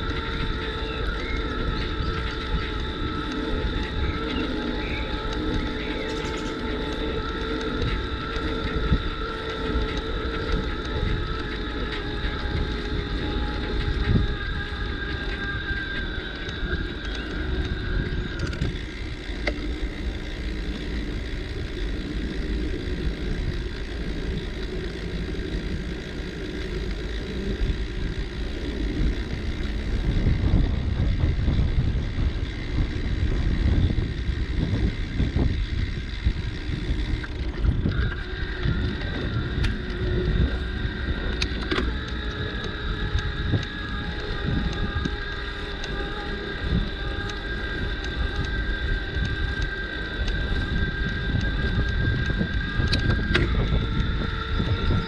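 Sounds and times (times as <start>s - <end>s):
faint high whine: 0.0s - 55.0s
tyres rumbling on path: 0.0s - 55.0s
wind buffeting microphone: 0.0s - 55.0s.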